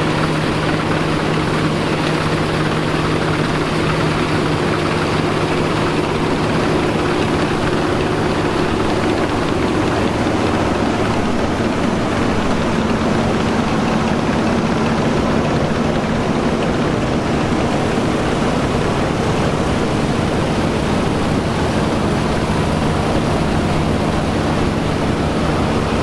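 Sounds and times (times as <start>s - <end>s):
heavy rushing noise: 0.0s - 26.0s
machinery engine humming: 0.0s - 26.0s.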